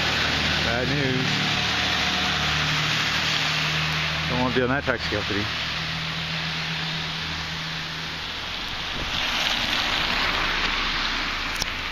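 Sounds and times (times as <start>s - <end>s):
low engine hum: 0.0s - 11.9s
tyres hissing on wet pavement: 0.0s - 11.9s.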